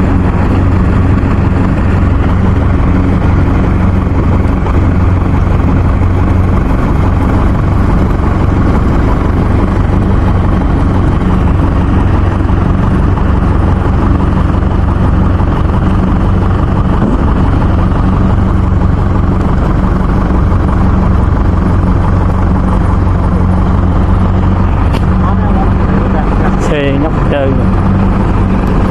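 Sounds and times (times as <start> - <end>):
combine harvester engine drone: 0.0 - 28.9.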